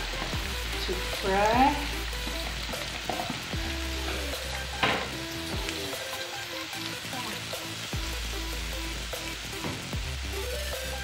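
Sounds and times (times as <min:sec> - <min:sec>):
background music: 0:00.0 - 0:11.0
onions sizzling in hot oil: 0:00.0 - 0:11.0.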